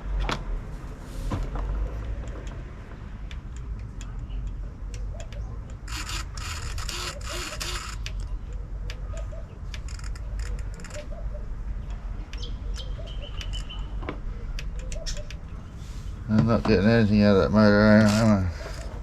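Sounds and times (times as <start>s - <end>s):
clicks and handling noises: 1.4s - 15.6s, 18.0s - 19.0s.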